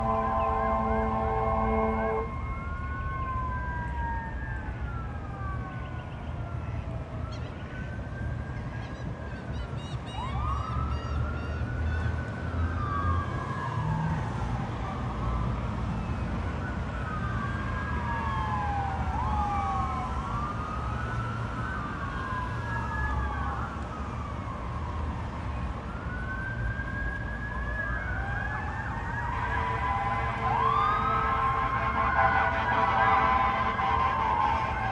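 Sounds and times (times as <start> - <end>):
engine and traffic rumble: 0.0 - 34.9
fire truck siren wailing: 0.0 - 34.9.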